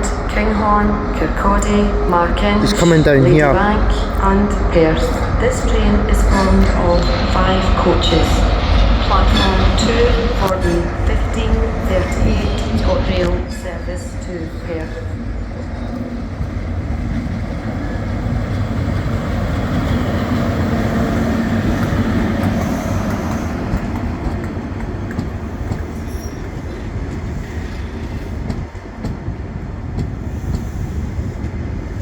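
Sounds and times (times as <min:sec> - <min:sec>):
diesel train engine running: 0:00.0 - 0:32.0
wheels rumbling on rails: 0:00.0 - 0:32.0.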